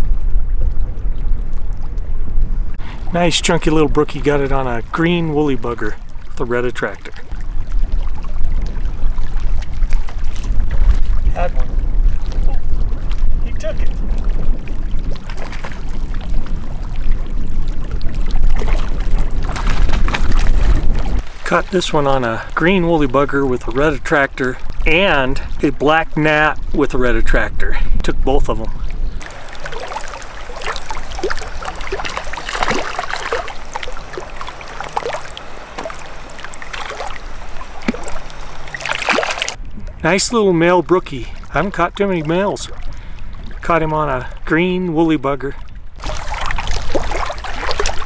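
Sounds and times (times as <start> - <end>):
wind buffeting microphone: 0.0 - 44.5
waves lapping against rocks: 0.0 - 48.0.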